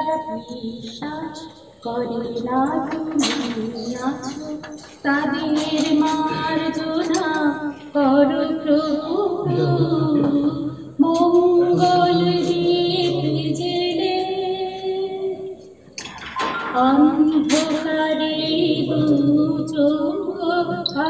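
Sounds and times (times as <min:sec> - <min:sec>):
woman singing with vibrato: 0:00.0 - 0:15.6, 0:16.5 - 0:21.0.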